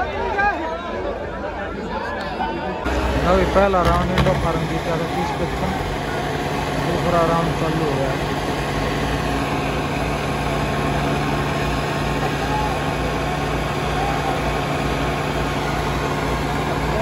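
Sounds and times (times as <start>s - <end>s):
crowd voices: 0.0s - 17.0s
diesel tractor engines under load: 2.9s - 17.0s.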